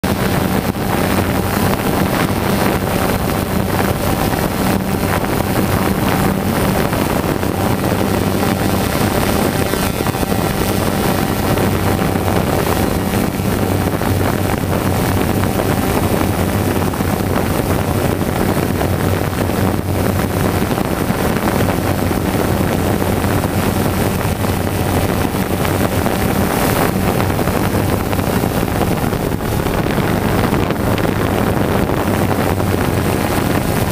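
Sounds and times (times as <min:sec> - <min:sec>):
wind noise on microphone: 0:00.0 - 0:33.9
drone motors and propellers whirring: 0:00.1 - 0:33.9.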